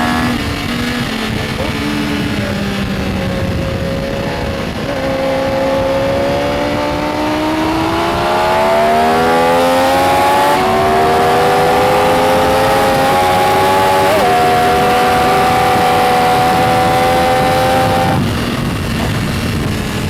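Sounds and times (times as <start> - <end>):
motorcycle engine accelerating: 0.0 - 20.0
rushing wind noise: 0.0 - 20.0.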